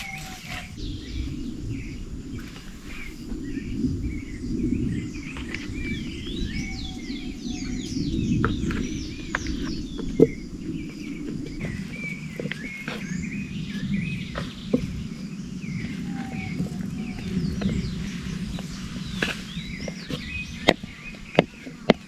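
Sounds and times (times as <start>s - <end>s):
birds chirping and calling: 0.0s - 22.0s
steady low rumble: 0.0s - 22.0s.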